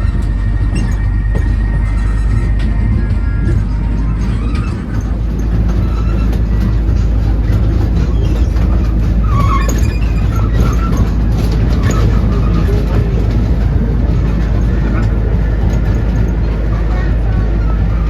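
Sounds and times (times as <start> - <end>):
ride train rumbling on track: 0.0 - 18.0.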